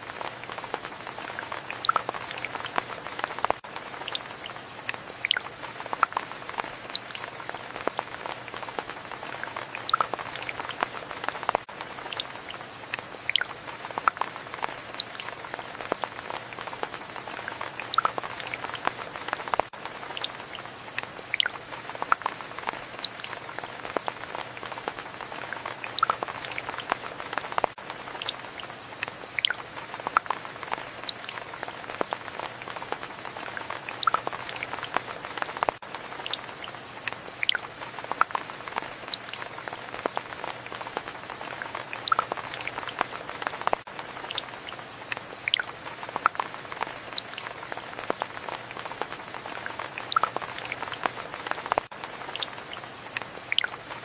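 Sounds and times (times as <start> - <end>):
raindrops pattering close by: 0.0 - 54.0
soft rain hiss: 0.0 - 54.0.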